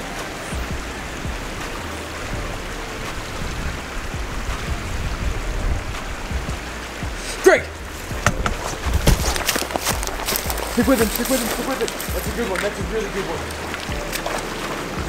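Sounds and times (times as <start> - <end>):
creek water running: 0.0 - 15.0
low uneven rumble: 0.0 - 15.0.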